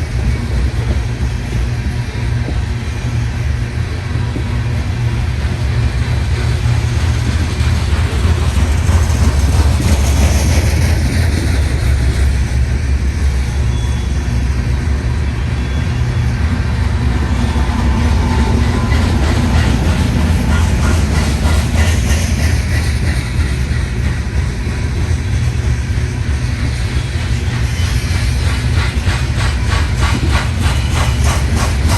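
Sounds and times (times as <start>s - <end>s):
train rolling rumble: 0.0s - 31.9s.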